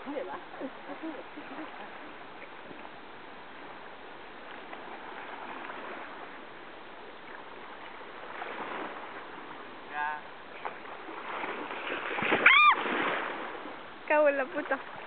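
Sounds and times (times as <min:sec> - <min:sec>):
small waves at shoreline: 0:00.0 - 0:15.0.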